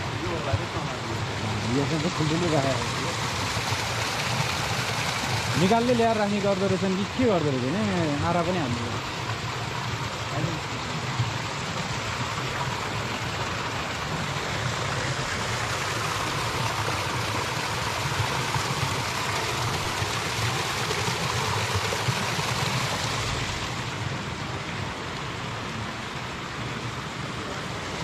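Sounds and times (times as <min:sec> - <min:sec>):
water rushing: 0:00.0 - 0:28.0.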